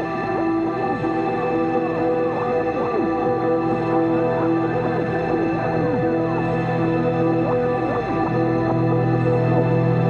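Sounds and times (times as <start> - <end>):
ambient music with swooping glides: 0.0 - 10.0.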